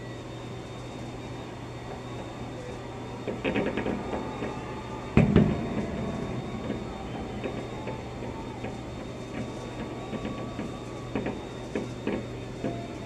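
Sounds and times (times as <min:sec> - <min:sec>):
low hum: 0:00.0 - 0:12.9
distant fireworks popping: 0:00.8 - 0:13.0.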